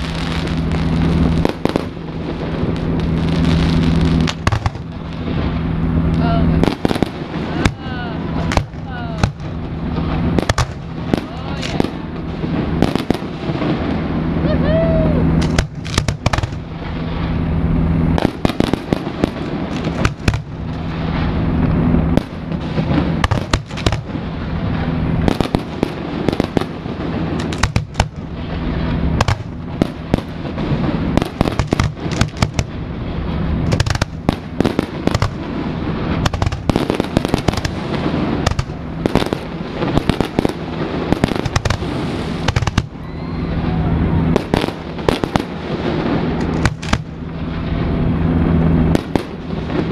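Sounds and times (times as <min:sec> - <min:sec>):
firework shells bursting: 0:00.0 - 0:14.2, 0:15.3 - 0:17.4, 0:18.1 - 0:24.3, 0:25.2 - 0:32.8, 0:33.6 - 0:43.1, 0:44.3 - 0:47.6
firework crackle: 0:00.0 - 0:49.9.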